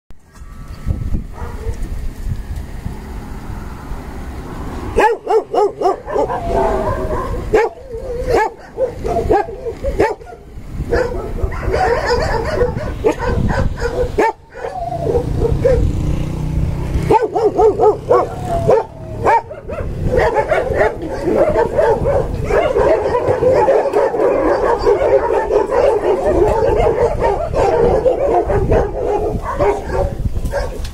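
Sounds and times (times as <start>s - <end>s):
dogs barking and yelping: 1.3s - 2.0s, 4.6s - 30.9s.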